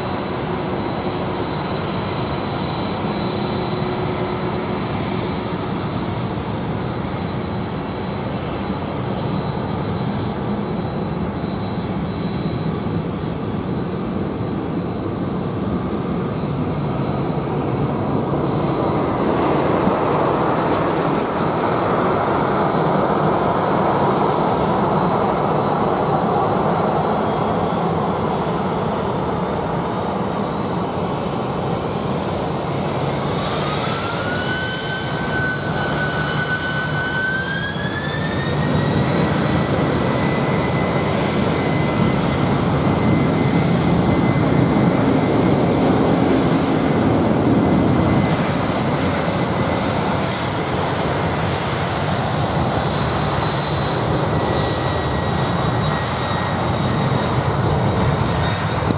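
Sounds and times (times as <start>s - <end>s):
jet engines spooling up: 0.0s - 58.9s.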